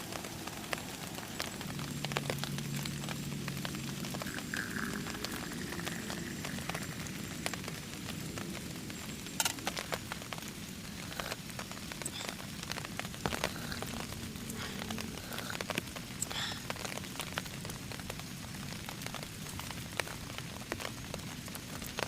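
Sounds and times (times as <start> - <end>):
raindrops ticking on surface: 0.0 - 22.0
steady rain falling: 0.0 - 22.0.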